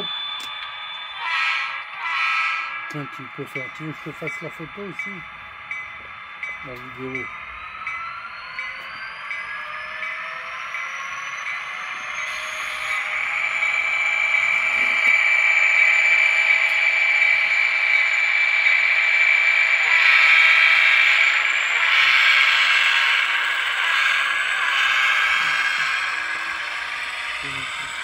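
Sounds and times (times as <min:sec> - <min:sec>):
model diesel locomotive engine whine: 0:00.0 - 0:28.0.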